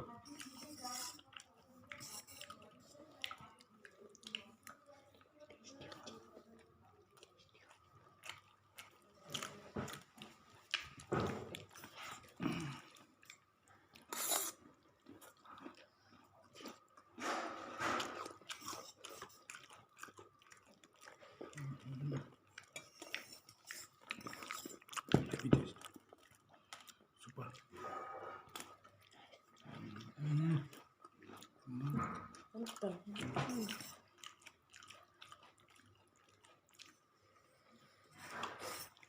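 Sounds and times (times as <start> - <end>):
person chewing and crunching food: 0.0 - 39.0.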